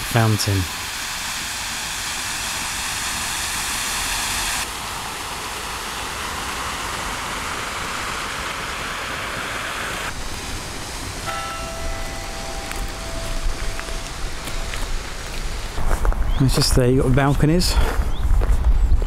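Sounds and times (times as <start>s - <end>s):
fountain water splashing: 0.0s - 15.9s.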